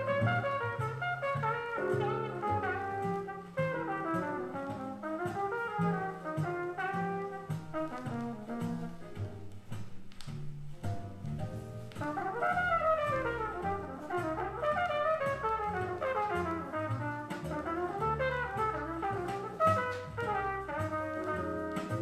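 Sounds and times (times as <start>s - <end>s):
muted trumpet playing jazz: 0.0s - 10.0s, 12.0s - 22.0s
drums with cymbal ticks: 0.0s - 22.0s
walking double bass: 0.0s - 22.0s.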